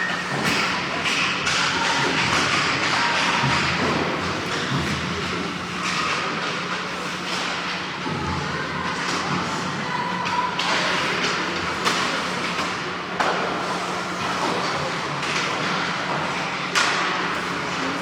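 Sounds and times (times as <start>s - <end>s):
skating and arena noise: 0.0s - 18.0s.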